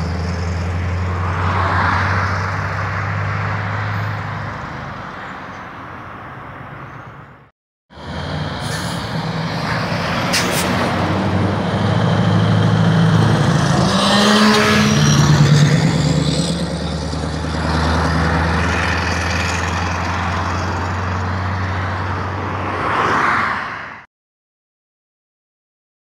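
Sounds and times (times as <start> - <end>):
truck engine passing: 0.0 - 5.3, 7.9 - 24.0.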